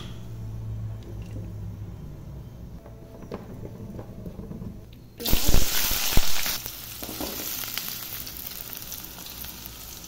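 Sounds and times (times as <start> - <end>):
low kitchen hum: 0.0 - 10.0.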